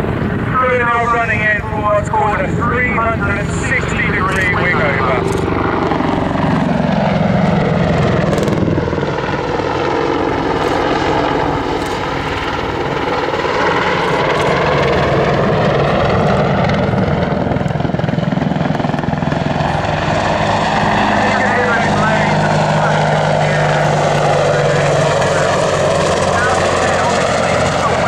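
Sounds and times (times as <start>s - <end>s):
turbine engine whine: 0.0s - 28.0s
helicopter rotor thudding: 3.1s - 28.0s.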